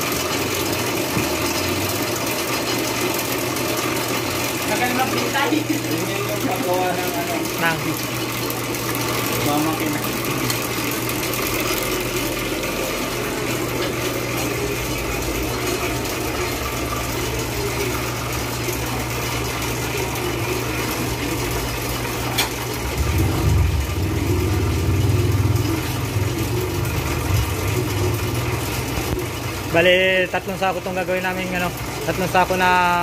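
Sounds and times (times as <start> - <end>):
machinery electric hum: 0.0 - 33.0.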